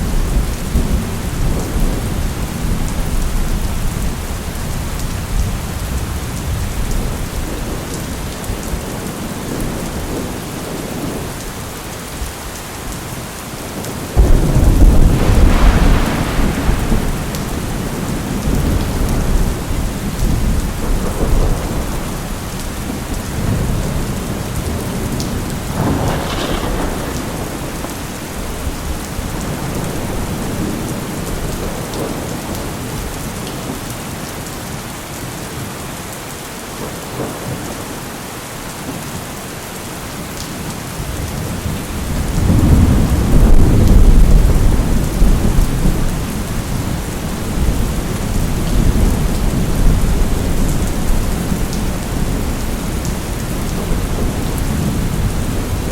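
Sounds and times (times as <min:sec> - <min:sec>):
rolling thunder: 0:00.0 - 0:11.4, 0:13.8 - 0:33.2, 0:41.0 - 0:55.9
steady rain: 0:00.0 - 0:55.9.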